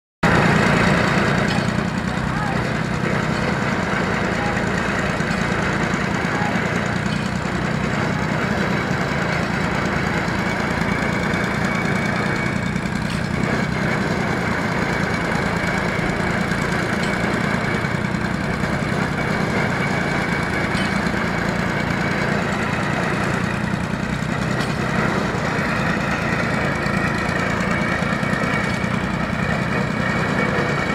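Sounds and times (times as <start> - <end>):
small engine running steadily: 0.2 - 30.9.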